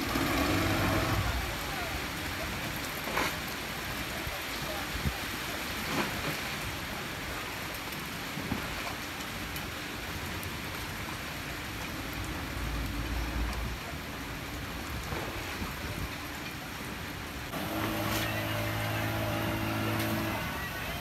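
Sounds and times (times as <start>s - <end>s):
boat engine running low: 0.0s - 9.0s, 9.7s - 21.0s
heavy rain on water and roofs: 0.0s - 21.0s.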